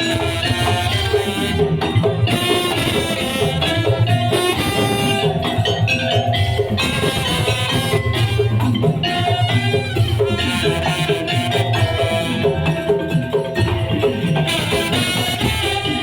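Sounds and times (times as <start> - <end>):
percussion ensemble playing: 0.0 - 16.0.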